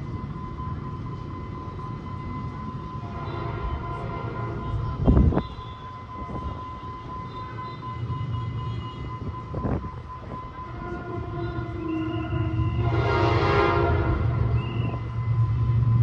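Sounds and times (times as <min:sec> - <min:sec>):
diesel train engine rumble: 0:00.0 - 0:16.0
train horn: 0:02.8 - 0:16.0.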